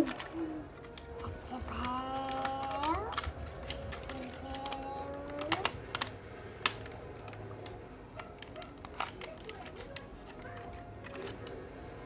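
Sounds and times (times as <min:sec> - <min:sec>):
fingers tapping plastic toy: 0:00.0 - 0:11.6.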